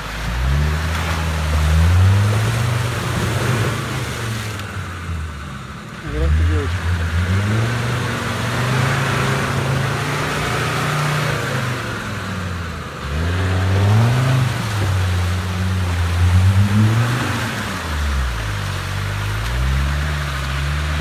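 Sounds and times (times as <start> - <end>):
engine revving under load: 0.0 - 21.0
mud and water sloshing: 0.0 - 21.0.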